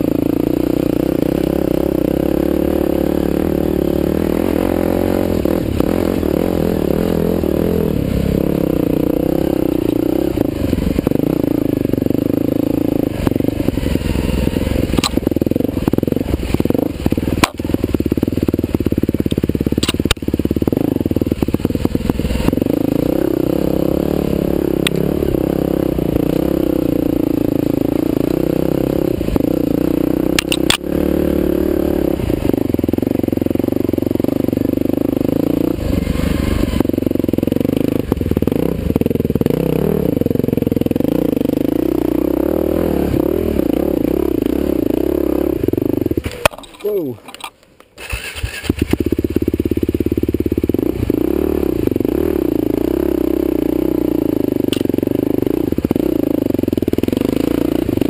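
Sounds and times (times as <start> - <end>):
dirt bike engine revving: 0.0 - 47.2, 47.9 - 58.0.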